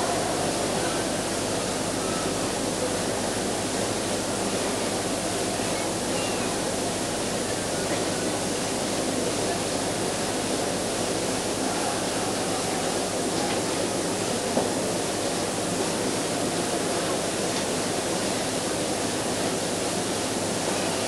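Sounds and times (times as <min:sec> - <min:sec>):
murmur of indoor crowd: 0:00.0 - 0:21.0.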